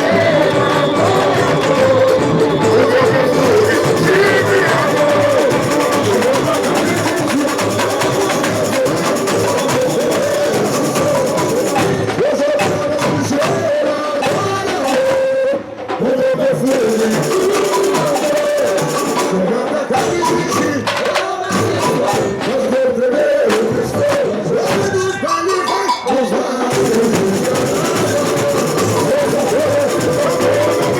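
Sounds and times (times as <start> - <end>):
samba drum and rattle percussion: 0.0 - 30.9
voices singing: 0.0 - 30.9.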